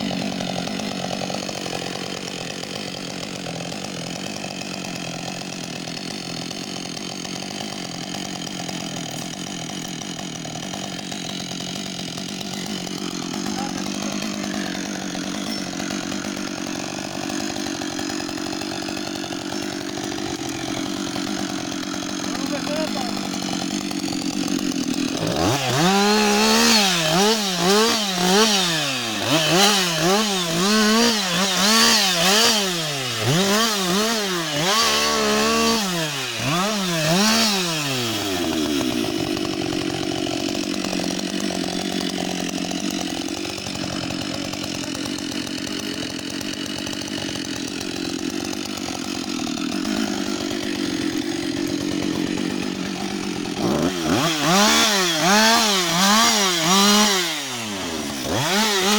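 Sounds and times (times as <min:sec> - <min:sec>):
chainsaw engine revving and idling: 0:00.0 - 0:58.9.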